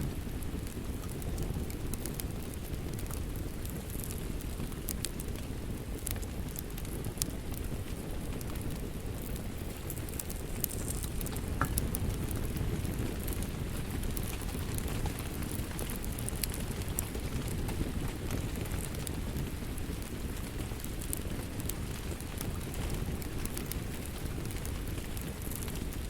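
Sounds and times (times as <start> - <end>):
fire crackling and popping: 0.0 - 26.0
fire rumbling: 0.0 - 26.0.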